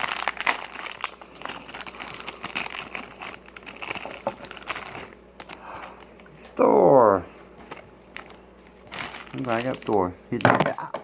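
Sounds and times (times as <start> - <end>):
plastic packaging crinkling: 0.0 - 6.3, 7.6 - 11.0.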